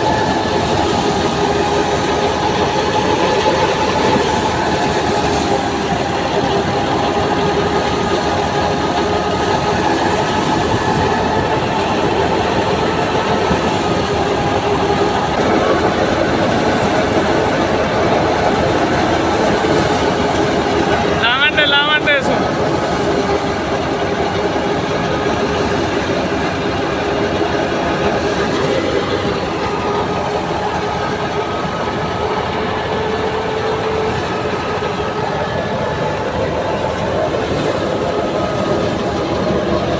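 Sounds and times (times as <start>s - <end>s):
constant hum: 0.0s - 39.9s
held machine whine: 0.0s - 39.9s
thresher running: 0.0s - 39.9s.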